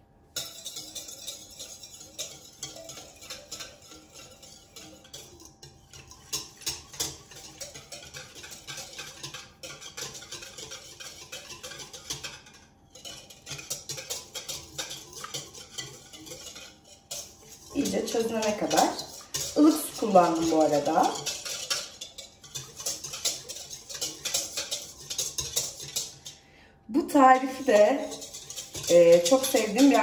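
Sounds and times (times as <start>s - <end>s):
utensil clinking against bowl: 0.3s - 26.4s, 27.0s - 30.0s.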